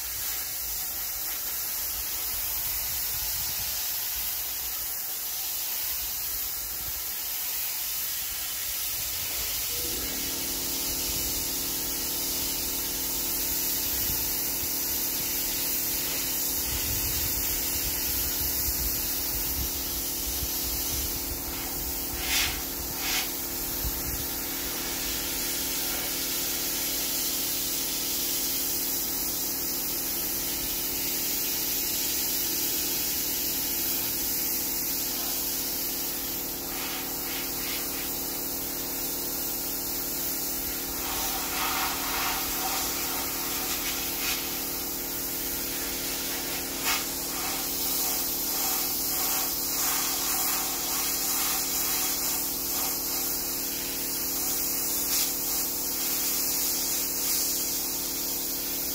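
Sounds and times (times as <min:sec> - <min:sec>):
spray gun hissing: 0:00.0 - 0:58.9.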